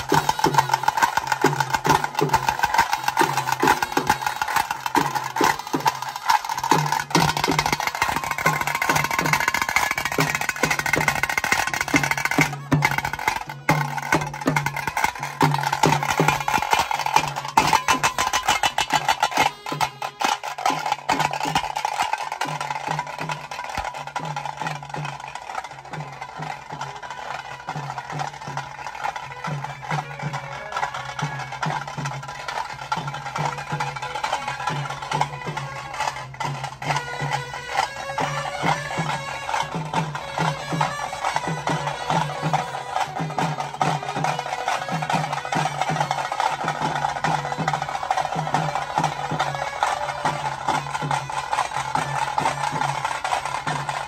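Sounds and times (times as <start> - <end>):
barrel drums beaten with sticks: 0.0 - 26.9, 31.0 - 54.0.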